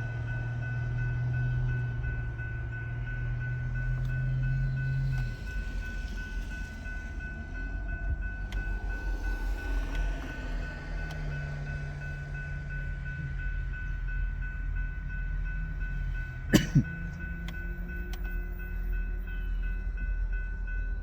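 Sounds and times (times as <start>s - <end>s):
railroad crossing bell ringing: 0.0s - 21.0s
train low rumble: 0.0s - 21.0s.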